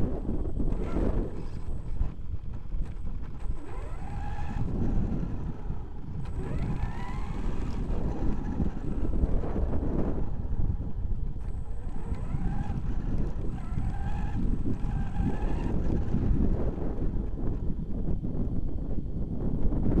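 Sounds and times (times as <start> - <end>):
electric motor whining: 0.0 - 17.8
wind on microphone: 0.0 - 20.0
tyres rumbling on gravel: 0.1 - 17.4.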